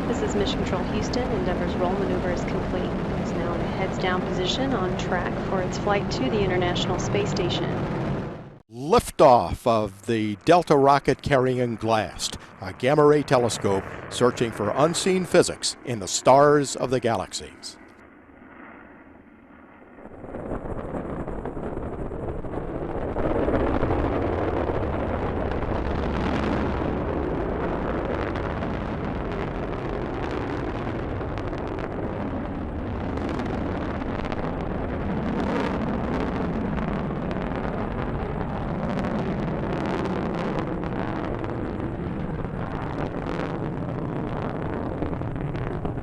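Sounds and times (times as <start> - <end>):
rocket engines roaring: 0.0 - 18.0, 20.0 - 46.0.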